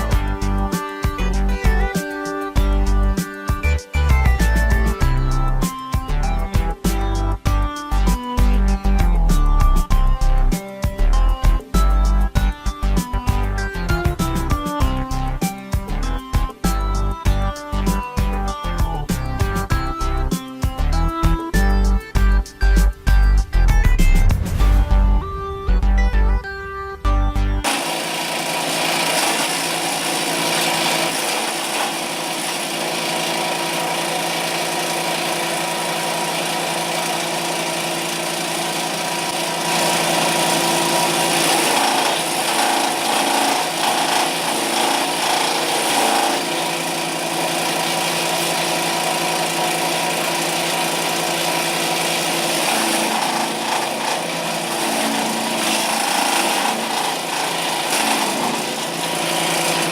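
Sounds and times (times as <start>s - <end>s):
wood chipper grinding wood: 0.0s - 24.5s, 27.6s - 59.9s.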